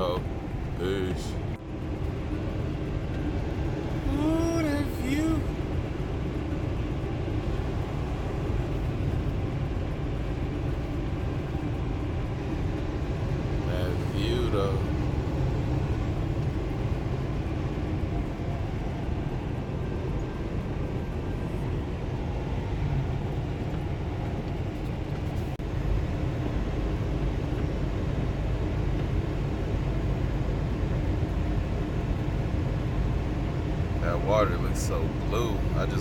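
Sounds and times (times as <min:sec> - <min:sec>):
road noise: 0:00.0 - 0:36.0
truck engine: 0:00.0 - 0:36.0.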